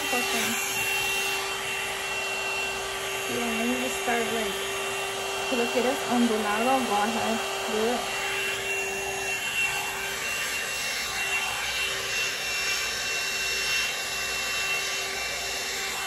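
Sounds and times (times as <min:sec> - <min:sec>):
hot air brush blowing air: 0:00.0 - 0:16.0
motor whine: 0:00.0 - 0:16.0.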